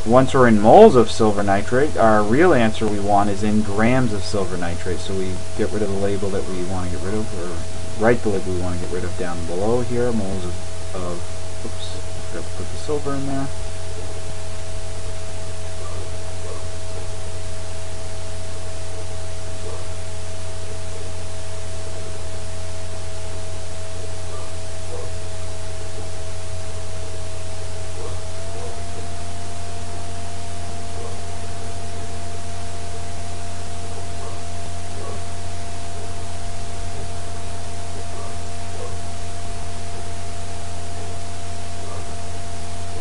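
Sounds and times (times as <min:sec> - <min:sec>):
constant hiss: 0:00.0 - 0:43.0
faint steady tones: 0:00.0 - 0:43.0
low electrical hum: 0:00.0 - 0:43.0.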